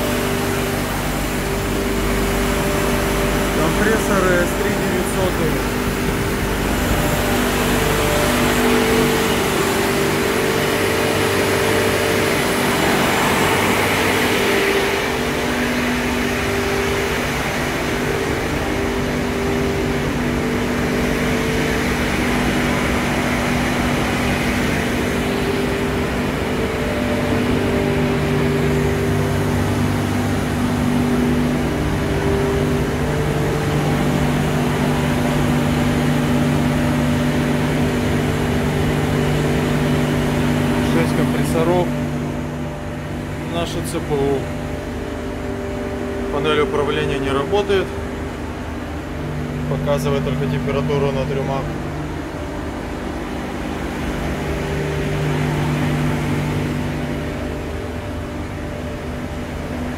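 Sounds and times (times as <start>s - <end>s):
refrigeration compressors humming: 0.0s - 59.9s.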